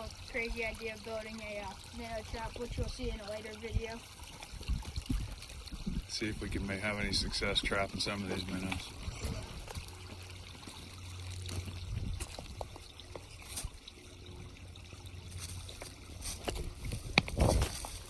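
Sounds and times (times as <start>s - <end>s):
creek water trickling over rocks: 0.0s - 18.0s.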